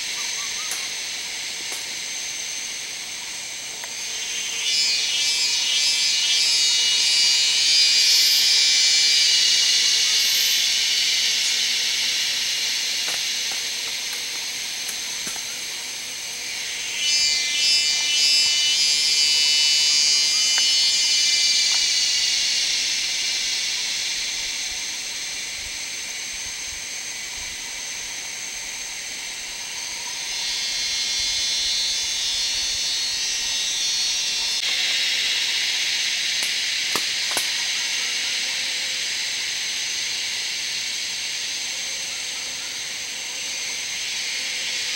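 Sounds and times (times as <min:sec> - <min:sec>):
cicadas buzzing: 0:00.0 - 0:44.9
fast pulsing insect call: 0:00.0 - 0:44.9.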